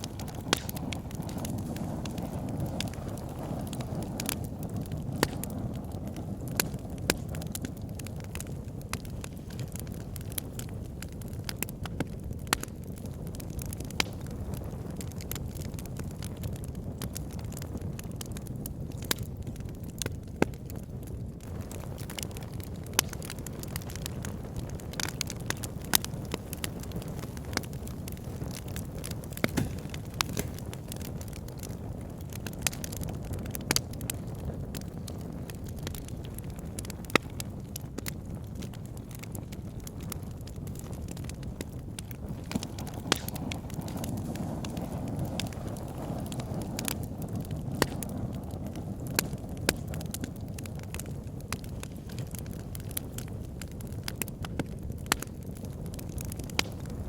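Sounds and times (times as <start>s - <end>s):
logs crackling and popping: 0.0s - 57.0s
low rumble of flames: 0.0s - 57.0s.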